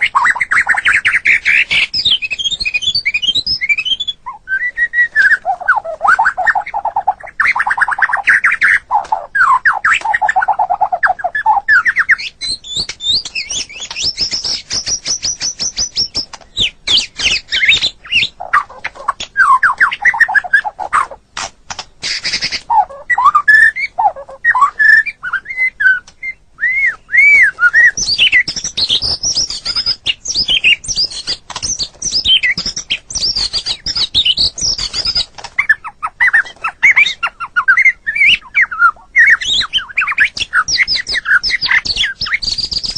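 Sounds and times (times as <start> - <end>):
songbird singing varied song: 0.0 - 21.2, 21.8 - 42.9.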